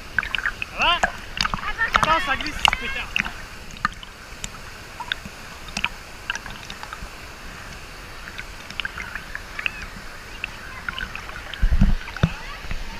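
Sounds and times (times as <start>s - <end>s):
river water running: 0.0s - 12.9s
small water splashes: 0.0s - 12.9s.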